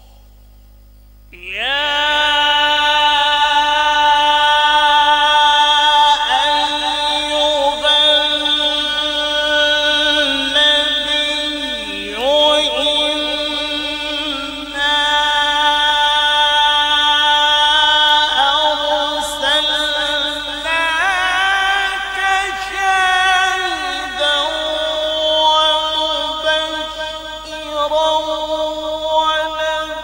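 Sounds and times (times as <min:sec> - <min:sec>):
man reciting melodically: 0:01.3 - 0:30.0.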